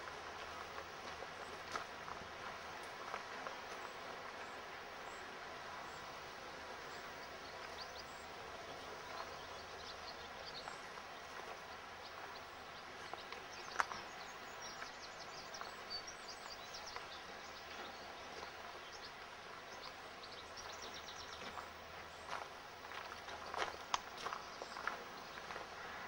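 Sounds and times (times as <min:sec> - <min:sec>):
birds chirping: 0:00.0 - 0:26.0
steady hiss: 0:00.0 - 0:26.0.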